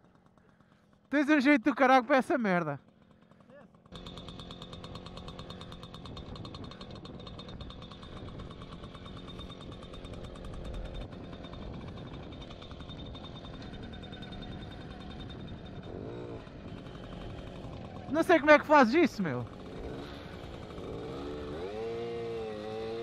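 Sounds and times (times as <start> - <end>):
small motorcycle engine running: 0.0 - 23.0.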